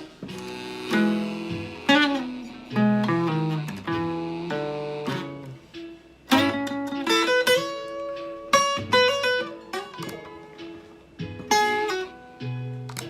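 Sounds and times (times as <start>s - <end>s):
blues guitar picking: 0.0s - 13.0s.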